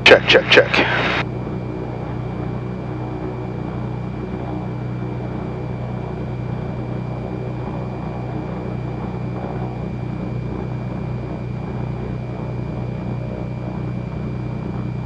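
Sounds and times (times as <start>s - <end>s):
aircraft engines droning: 0.0s - 15.0s
high steady whine: 0.0s - 15.0s.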